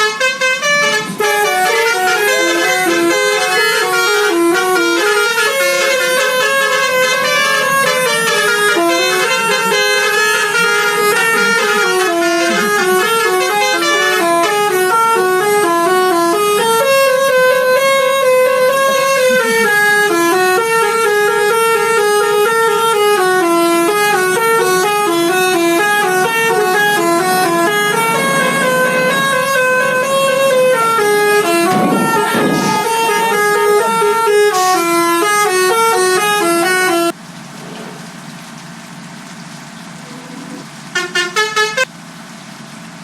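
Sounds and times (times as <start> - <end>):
multi-note bus air horn melody: 0.0 - 37.2, 40.9 - 41.9.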